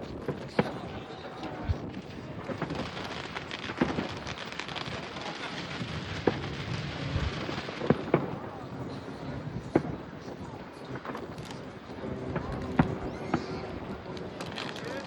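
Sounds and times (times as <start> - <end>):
background rumble: 0.0 - 15.0
fireworks booms and cracks: 0.0 - 15.0.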